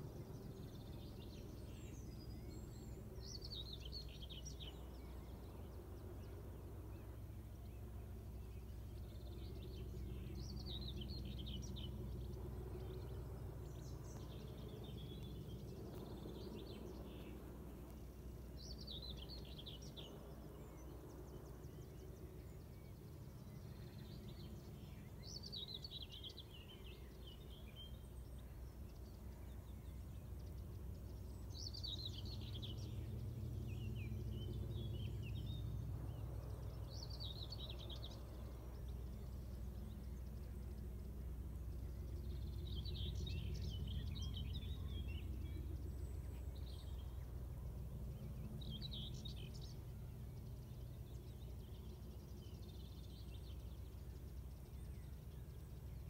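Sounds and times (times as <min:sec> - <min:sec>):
small birds twittering: 0:00.0 - 0:56.0.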